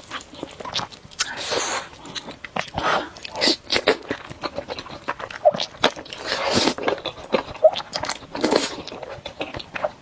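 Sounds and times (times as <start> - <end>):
chewing with wet smacking: 0.0 - 10.0.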